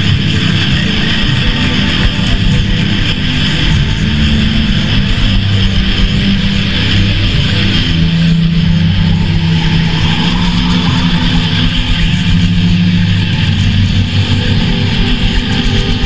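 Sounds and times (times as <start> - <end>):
distorted guitar and bass chords: 0.0 - 16.0.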